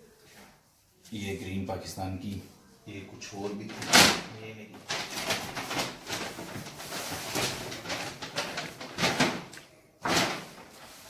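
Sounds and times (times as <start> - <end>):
t-shirts rustling: 0.0 - 11.0.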